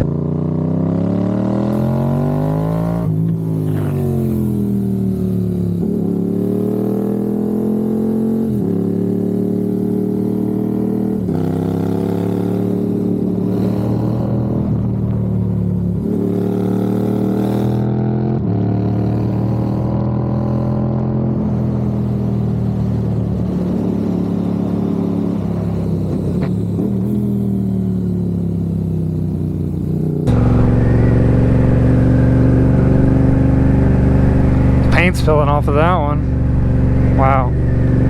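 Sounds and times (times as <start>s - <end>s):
motorcycle engine shifting gears: 0.0s - 38.0s.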